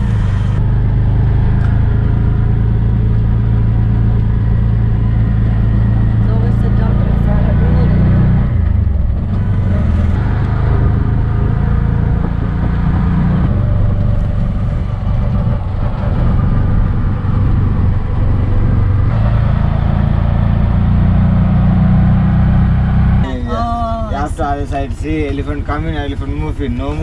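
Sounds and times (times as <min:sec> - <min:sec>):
auto rickshaw engine running: 0:00.0 - 0:27.0
road and wind noise: 0:00.0 - 0:27.0.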